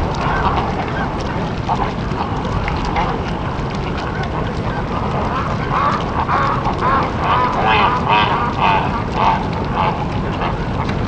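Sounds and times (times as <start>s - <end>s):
steady low noise: 0.0s - 11.0s.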